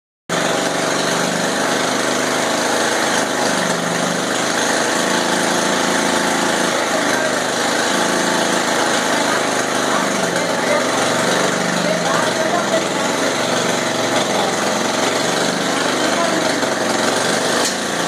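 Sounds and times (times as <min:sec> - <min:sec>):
small motorcycle engine running: 0:00.3 - 0:18.0.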